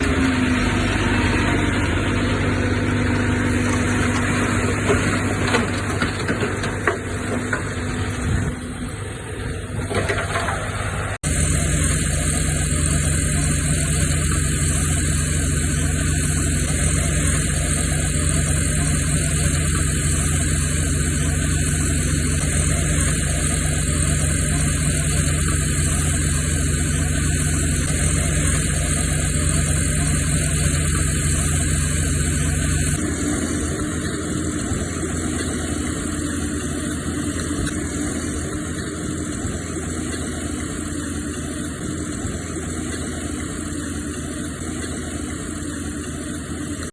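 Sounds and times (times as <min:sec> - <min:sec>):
heavy machinery diesel engines: 0:00.0 - 0:46.9.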